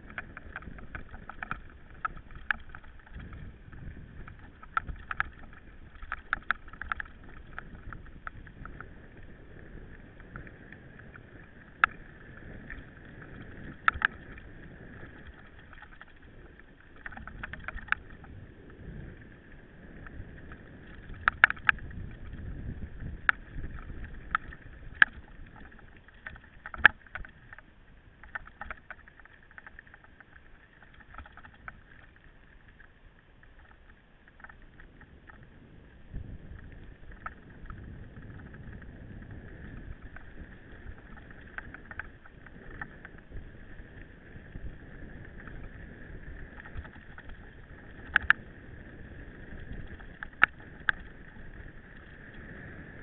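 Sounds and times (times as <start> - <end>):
tyre and wind rumble: 0.0 - 27.6, 34.5 - 53.0.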